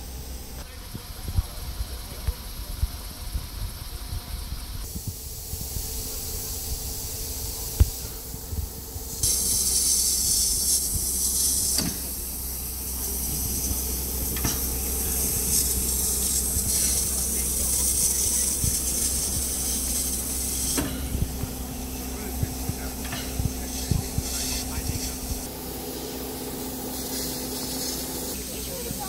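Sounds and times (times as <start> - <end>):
steady low rumble: 0.0 - 27.1
loud steam hiss: 0.0 - 29.0.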